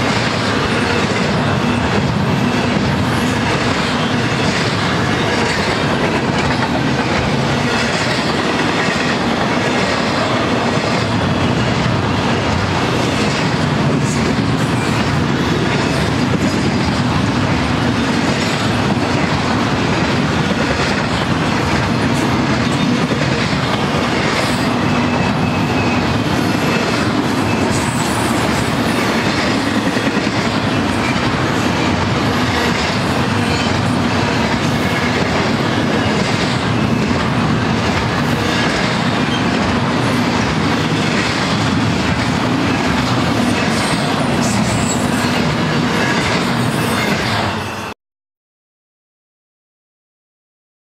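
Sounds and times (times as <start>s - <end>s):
steel wheels rumbling on rail: 0.0s - 47.9s.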